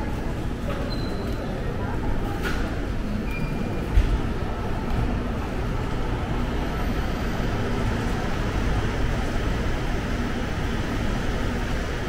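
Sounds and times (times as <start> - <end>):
train station rumble: 0.0 - 12.0.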